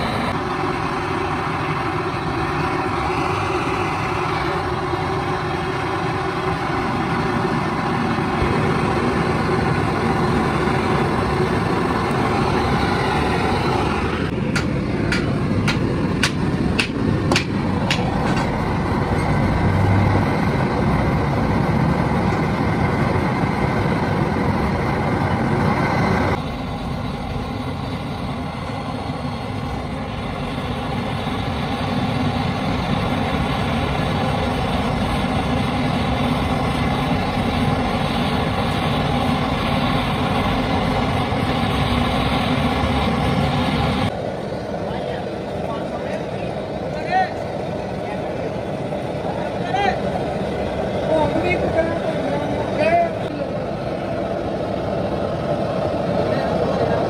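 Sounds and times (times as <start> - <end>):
welding torch flame hissing: 0.0 - 57.0.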